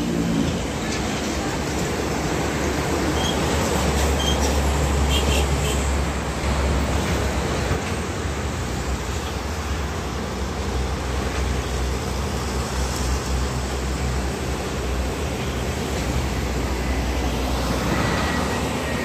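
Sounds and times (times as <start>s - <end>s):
highway traffic noise: 0.0s - 19.0s.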